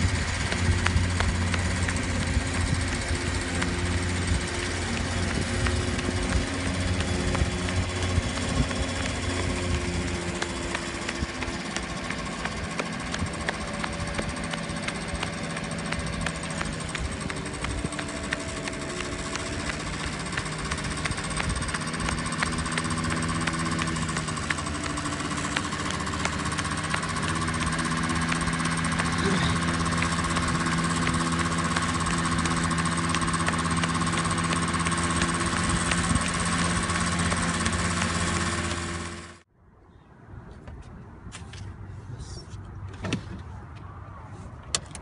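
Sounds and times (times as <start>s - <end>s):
small engine with knocking: 0.0s - 39.4s.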